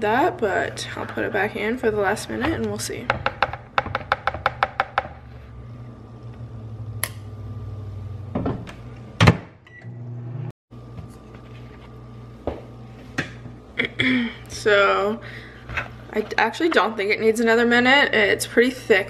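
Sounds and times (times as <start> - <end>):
steady low hum: 0.0 - 9.4, 10.1 - 19.0.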